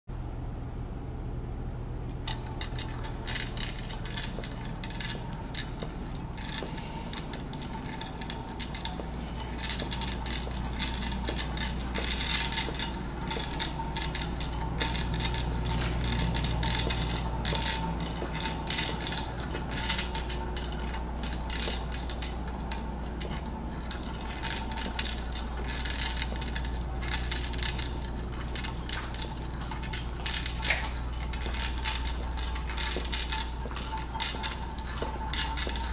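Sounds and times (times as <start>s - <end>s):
steady low hum: 0.1s - 35.9s.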